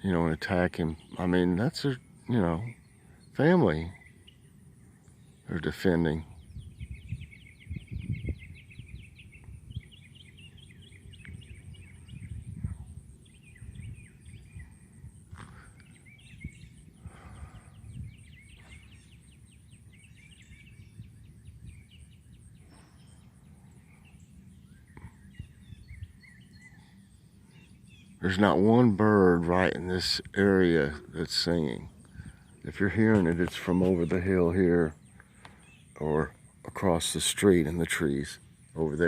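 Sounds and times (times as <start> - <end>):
songbirds chirping and trilling: 0.0 - 39.0.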